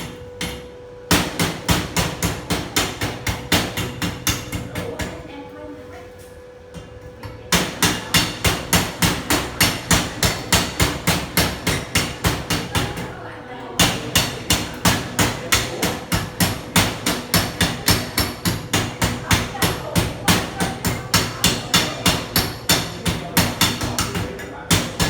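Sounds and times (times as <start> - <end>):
hammer striking metal: 0.0 - 5.1, 7.5 - 13.0, 13.8 - 25.0.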